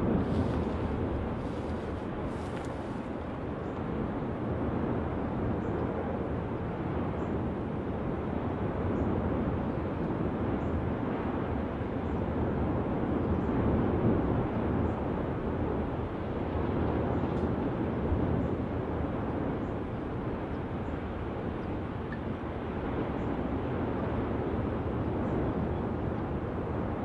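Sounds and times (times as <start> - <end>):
volcanic vent rushing: 0.0 - 27.0.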